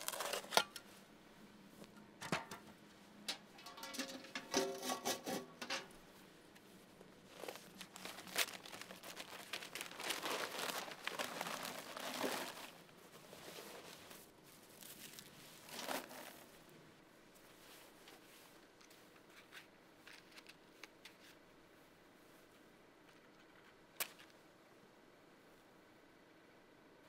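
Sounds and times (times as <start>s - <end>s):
rustling and crinkling handling noise: 0.0s - 16.7s, 17.3s - 24.4s.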